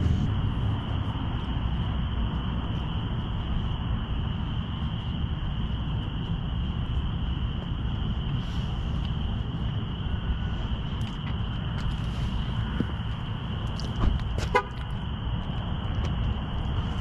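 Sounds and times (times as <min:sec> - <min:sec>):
crickets chirring: 0:00.0 - 0:17.0
low rumble: 0:00.0 - 0:17.0.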